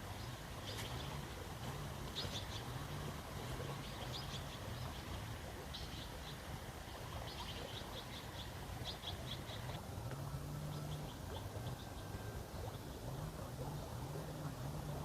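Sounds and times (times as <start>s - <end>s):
small birds chirping: 0.0s - 9.8s, 10.4s - 15.0s
low wavering hum: 0.0s - 15.0s.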